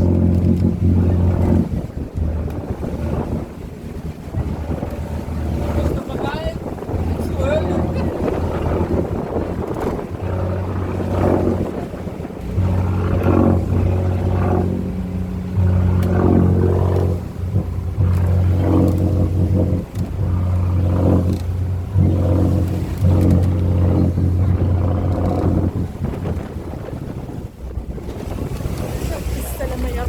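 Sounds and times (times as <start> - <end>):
motorboat engine hum: 0.0 - 30.0
wind buffeting microphone: 0.0 - 30.0.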